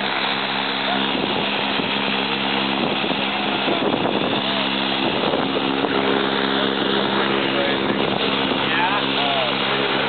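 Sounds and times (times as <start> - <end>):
propeller airplane engine droning: 0.0 - 10.0
wind noise on microphone: 1.0 - 10.0.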